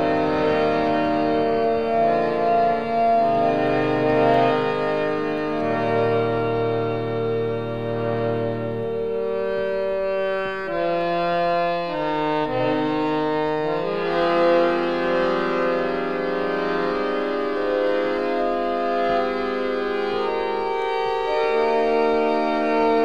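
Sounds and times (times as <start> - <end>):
harmonium chords from a record: 0.0 - 23.0.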